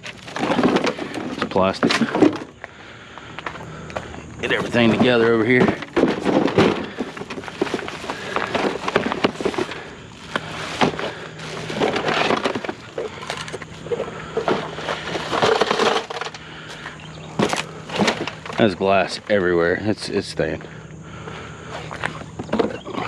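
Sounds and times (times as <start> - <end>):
scrap clattering and scraping: 0.0 - 2.6, 3.2 - 19.2
low steady hum: 0.0 - 23.0.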